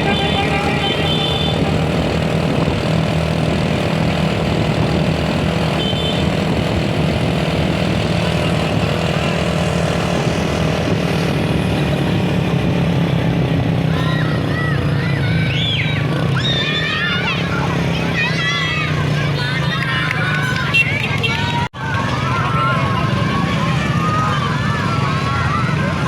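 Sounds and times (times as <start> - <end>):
road noise: 0.0 - 26.0
vehicle engine drone: 0.0 - 26.0.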